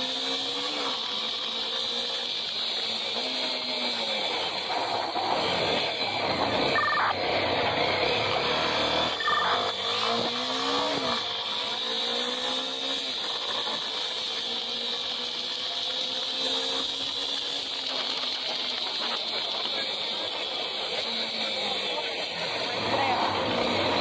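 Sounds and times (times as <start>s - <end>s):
small motorcycle engine revving: 0.0s - 24.0s
wind and road noise: 0.0s - 24.0s.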